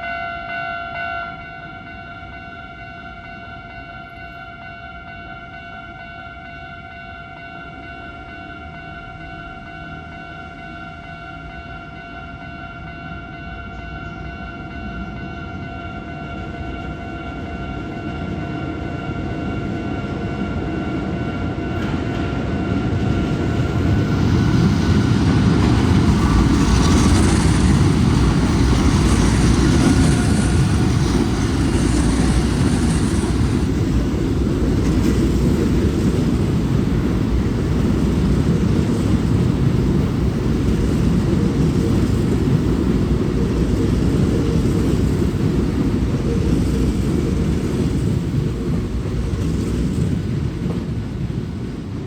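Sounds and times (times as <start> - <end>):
electric train wheels rumbling: 7.8 - 52.0.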